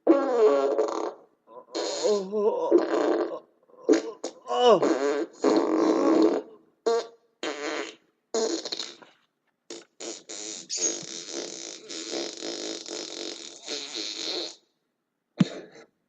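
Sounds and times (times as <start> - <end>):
buzzy fart-like noises: 0.0 - 14.8.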